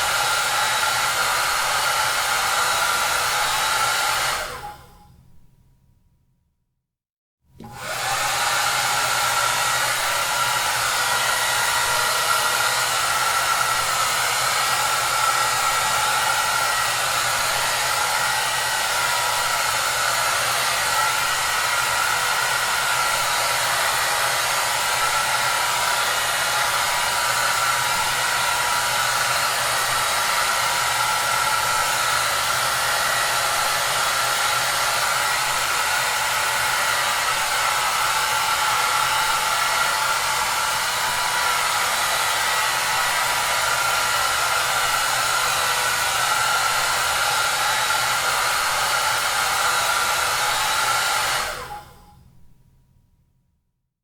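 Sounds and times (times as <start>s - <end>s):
hair dryer running: 0.0s - 5.0s, 7.6s - 52.1s.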